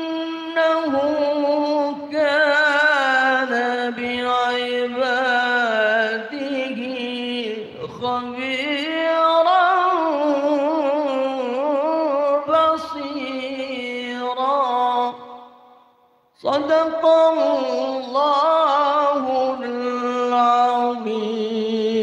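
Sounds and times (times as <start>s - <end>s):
man reciting melodically: 0.0s - 22.0s.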